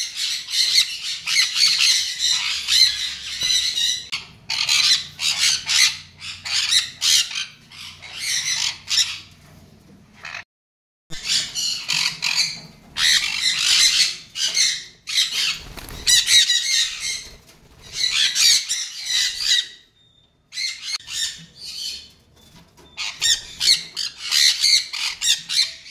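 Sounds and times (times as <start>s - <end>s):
parrots calling shrilly: 0.0s - 9.4s, 11.2s - 19.9s, 20.5s - 22.1s, 23.0s - 25.9s.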